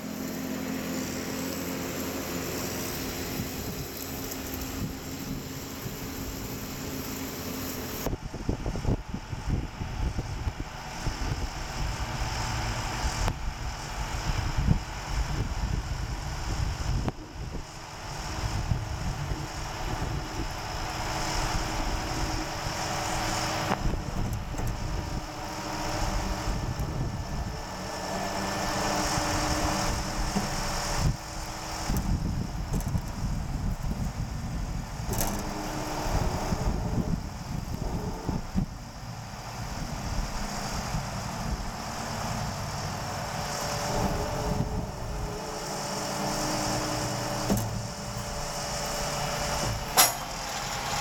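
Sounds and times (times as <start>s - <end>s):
harvesting machine engine drone: 0.0s - 51.0s.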